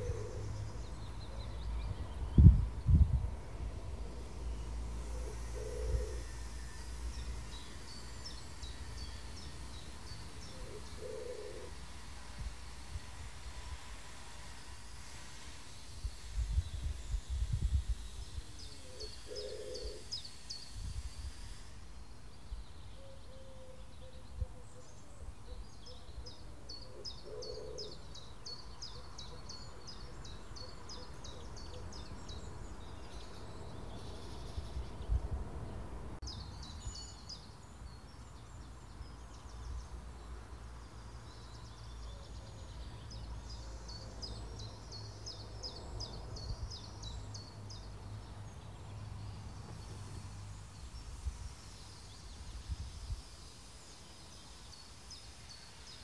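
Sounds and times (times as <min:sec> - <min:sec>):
bird chirping song: 0:00.0 - 0:11.8, 0:15.9 - 0:21.3, 0:22.0 - 0:56.0.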